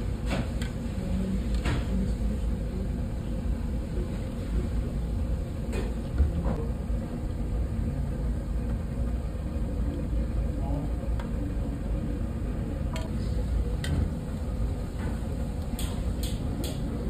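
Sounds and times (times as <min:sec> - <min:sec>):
food deep-frying in bubbling oil: 0:00.0 - 0:17.0
steady low rumble: 0:00.0 - 0:17.0.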